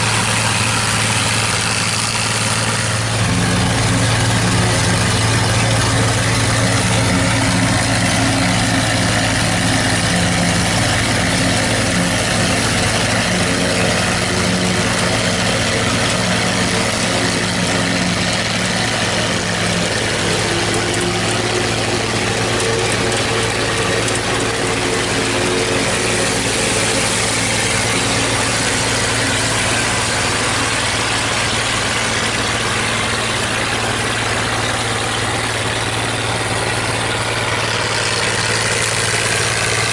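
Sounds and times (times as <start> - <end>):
engine hum: 0.0 - 39.9
forage chopper rush and clatter: 0.0 - 39.9.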